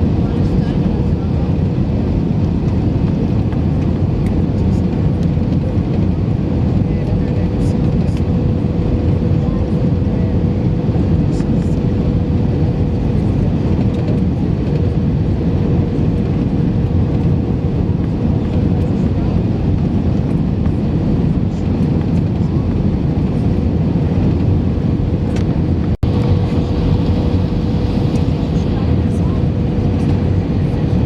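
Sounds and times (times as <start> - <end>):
airplane engine and airflow rumble: 0.0 - 31.0.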